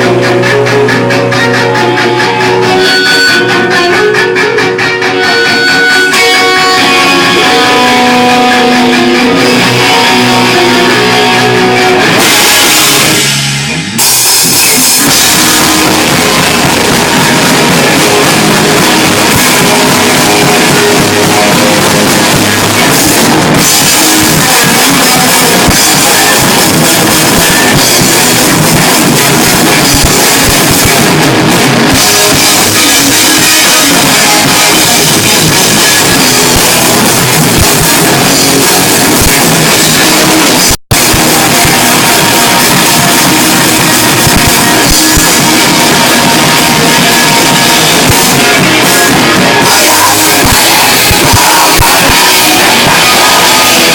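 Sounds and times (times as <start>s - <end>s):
drum kit and cymbals: 0.0s - 53.9s
picked guitar line: 0.0s - 53.9s
rock band playing live: 0.0s - 53.9s.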